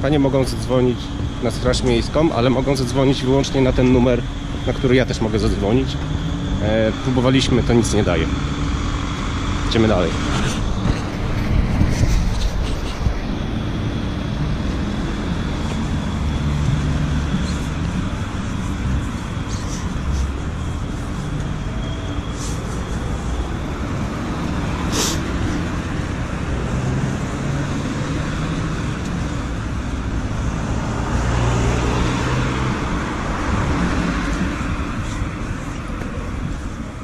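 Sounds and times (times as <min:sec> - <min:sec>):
cars driving past: 0:00.0 - 0:37.0.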